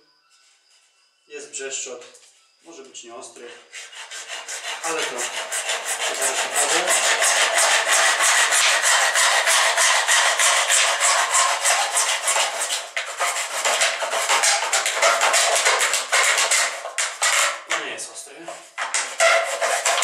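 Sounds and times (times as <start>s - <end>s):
hacksaw sawing plastic pipe: 3.4s - 20.0s.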